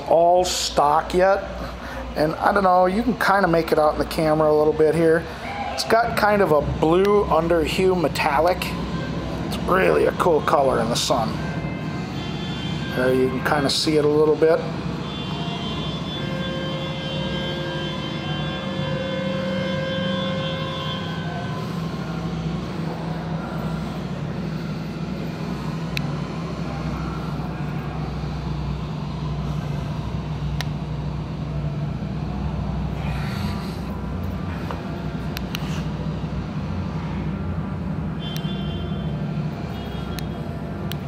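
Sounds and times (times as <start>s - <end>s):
low mechanical rumble: 0.0s - 41.0s.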